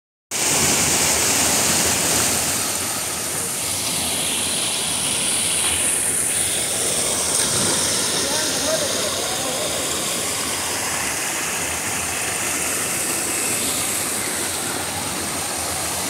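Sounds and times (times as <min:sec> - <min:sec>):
stream rushing over boulders: 0:00.3 - 0:16.0.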